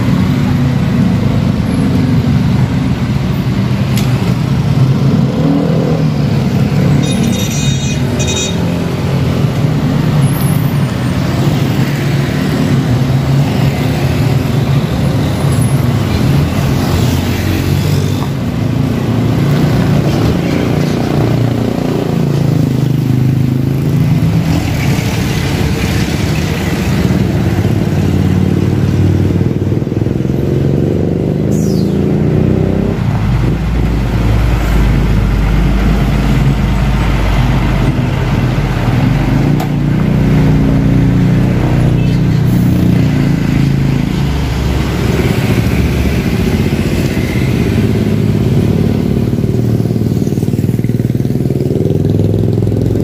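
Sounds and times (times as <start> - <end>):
dump truck diesel engines: 0.0 - 53.0
motorcycle engines passing: 0.0 - 53.0.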